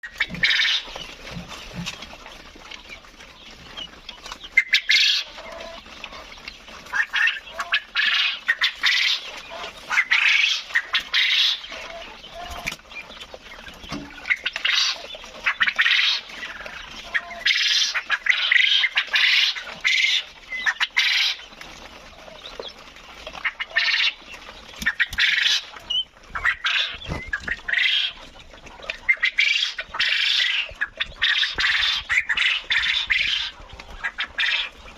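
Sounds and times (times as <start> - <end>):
quail squawking calls: 0.0 - 34.9.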